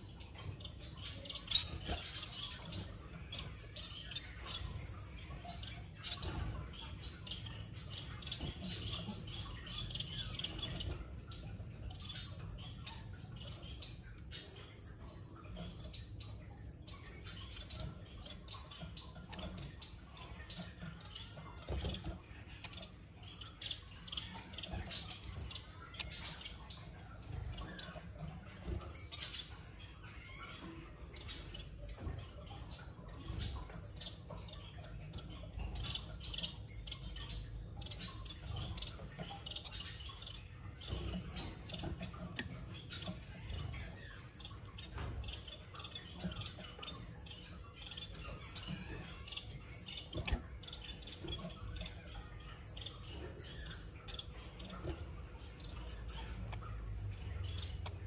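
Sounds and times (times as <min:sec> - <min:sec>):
finches chirping: 0:00.0 - 0:58.0.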